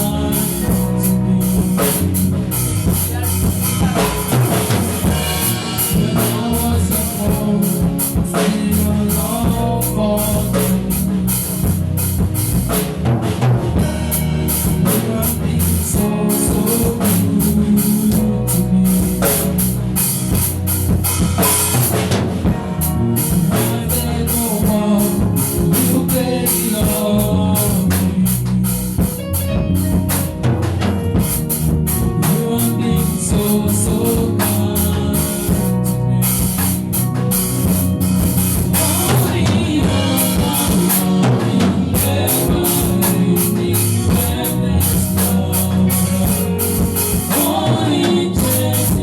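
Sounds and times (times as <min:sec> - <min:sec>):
person singing: 0:00.0 - 0:11.7, 0:13.8 - 0:20.2, 0:22.6 - 0:30.1, 0:31.8 - 0:37.6, 0:38.5 - 0:49.0
loud music with drum beat: 0:00.0 - 0:49.0.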